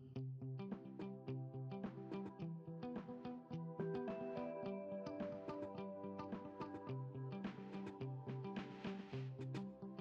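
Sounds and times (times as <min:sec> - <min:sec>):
background music with quick rhythm: 0:00.1 - 0:10.0.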